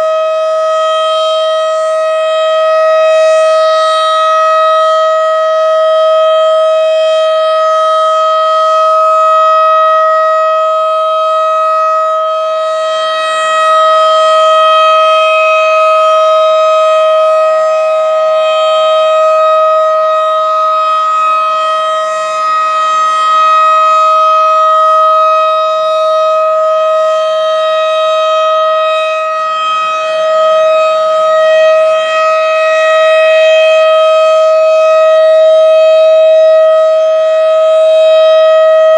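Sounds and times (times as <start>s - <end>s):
steady warning siren tone: 0.0s - 38.9s.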